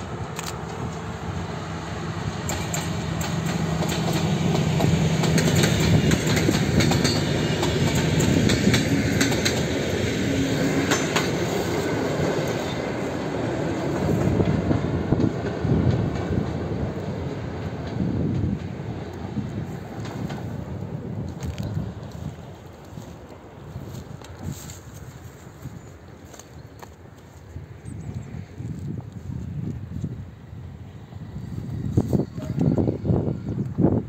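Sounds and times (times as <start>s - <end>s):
wheels clicking over rail joints: 0.0s - 30.1s
locomotive engine drone: 0.0s - 34.0s.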